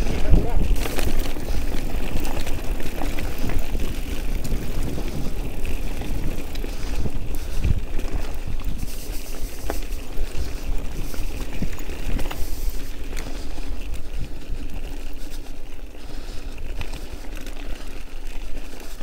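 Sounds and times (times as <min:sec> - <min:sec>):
bike rattling and knocking: 0:00.0 - 0:19.0
wind rumble on microphone: 0:00.0 - 0:19.0.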